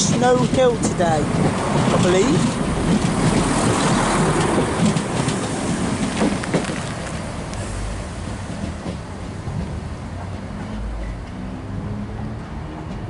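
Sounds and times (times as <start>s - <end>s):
train rumble and wheel clatter: 0.0s - 13.0s.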